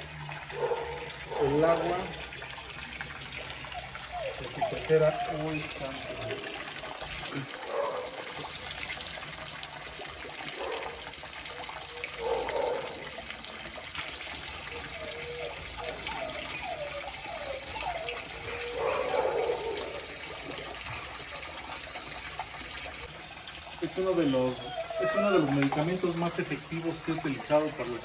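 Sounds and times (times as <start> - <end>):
water pouring into pond: 0.0 - 28.0.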